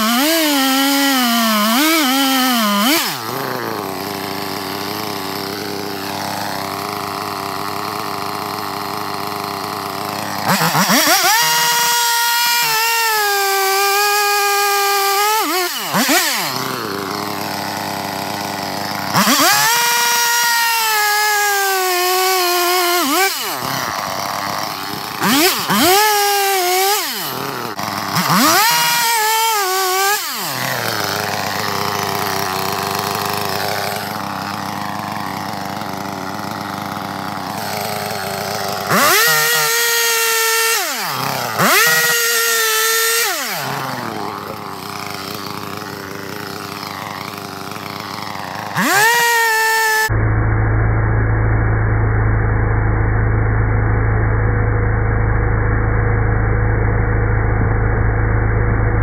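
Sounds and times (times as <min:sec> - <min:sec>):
chainsaw cutting tree: 0:00.0 - 0:50.2
chainsaw idling: 0:00.0 - 0:59.0.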